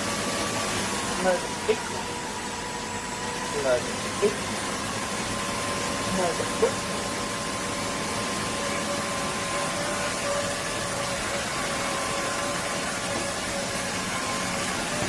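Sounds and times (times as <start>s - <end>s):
vacuum mop running: 0.0s - 15.0s.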